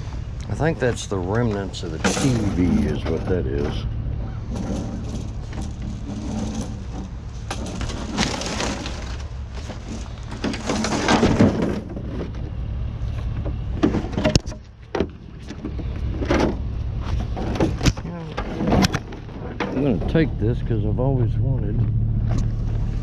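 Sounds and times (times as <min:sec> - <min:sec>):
junk rustling and clattering: 0:00.0 - 0:21.0
low engine hum: 0:00.0 - 0:23.0.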